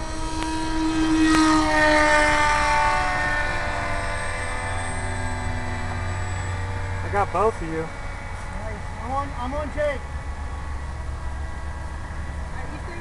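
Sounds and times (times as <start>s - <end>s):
model plane motor whine: 0.0s - 13.0s.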